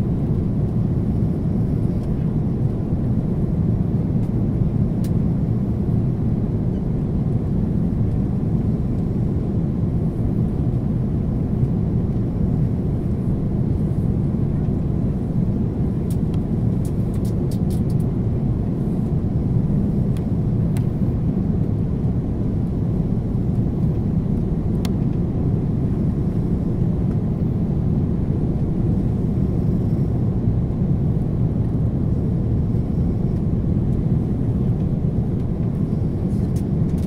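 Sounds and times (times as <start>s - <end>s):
airliner cabin noise: 0.0s - 37.0s.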